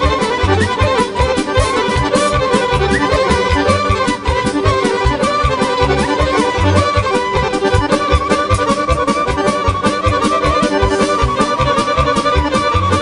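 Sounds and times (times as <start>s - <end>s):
accordion: 0.0s - 13.0s
folk band playing: 0.0s - 13.0s.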